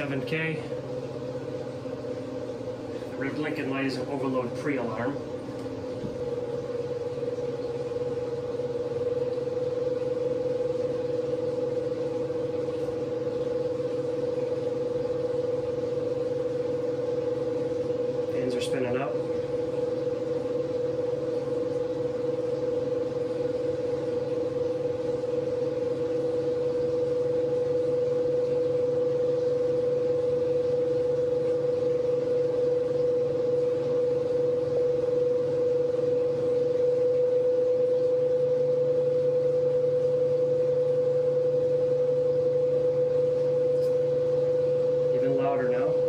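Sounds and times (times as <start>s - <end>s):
cooling fans spinning: 0.0s - 46.0s
inverter hum: 0.0s - 46.0s.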